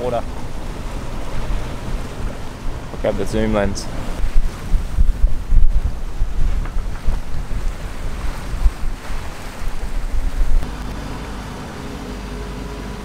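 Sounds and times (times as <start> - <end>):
wind buffeting microphone: 0.0 - 12.0
sea noise: 0.0 - 13.0.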